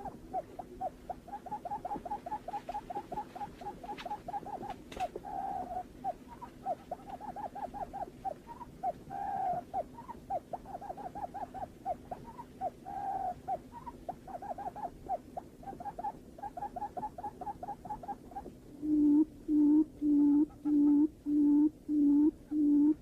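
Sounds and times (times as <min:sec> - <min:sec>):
buttonquail hooting call: 0:00.0 - 0:23.0.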